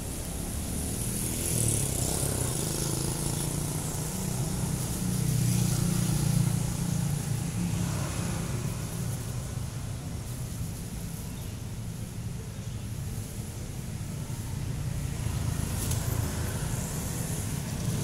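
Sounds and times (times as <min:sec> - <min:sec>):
motorcycles and scooters passing: 0:00.0 - 0:18.0.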